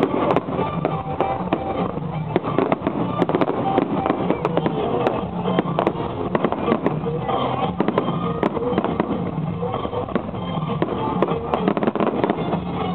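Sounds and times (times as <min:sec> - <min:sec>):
fireworks crackling and popping: 0:00.0 - 0:12.9
music playing: 0:00.0 - 0:12.9.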